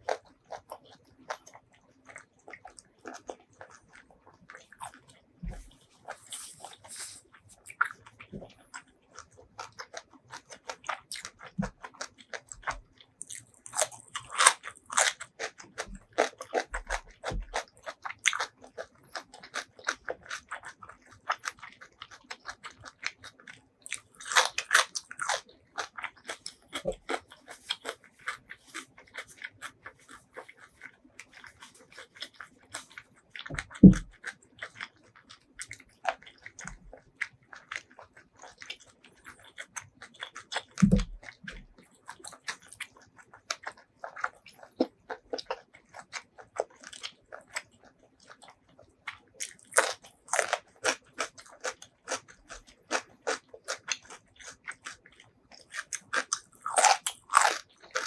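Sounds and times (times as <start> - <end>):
close chewing with wet smacks: 0.0 - 58.0.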